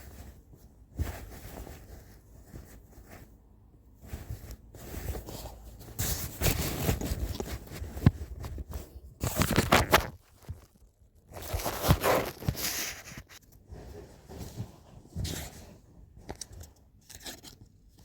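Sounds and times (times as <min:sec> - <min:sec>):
cosmetics rustling and scraping: 0:00.0 - 0:18.0.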